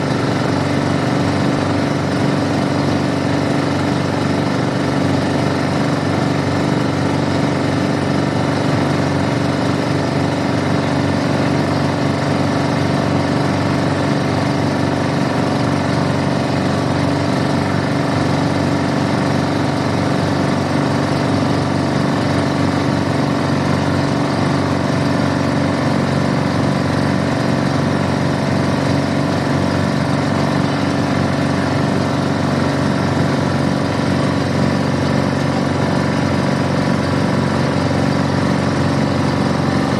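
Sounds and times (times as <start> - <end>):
boat engine running steadily: 0.0 - 39.9.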